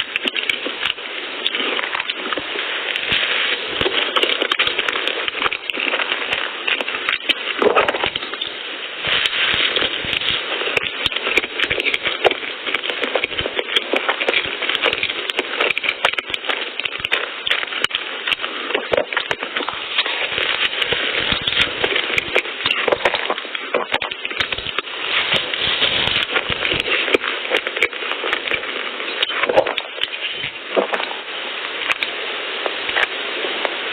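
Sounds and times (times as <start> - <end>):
chewing and mouth clicks: 0.0 - 31.2, 31.8 - 32.1.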